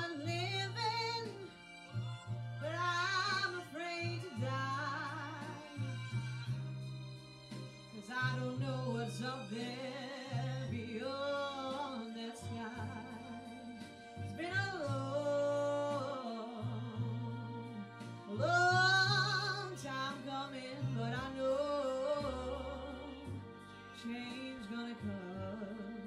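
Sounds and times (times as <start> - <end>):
woman singing into microphone: 0.0 - 1.5, 2.6 - 5.9, 8.0 - 13.4, 14.2 - 26.0
low musical backing: 0.0 - 26.0.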